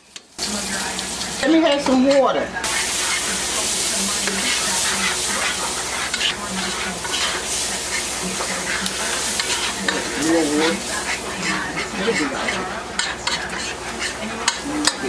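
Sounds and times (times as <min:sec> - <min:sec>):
food sizzling in a skillet: 0:00.0 - 0:15.0
spoon scraping a skillet: 0:01.7 - 0:15.0.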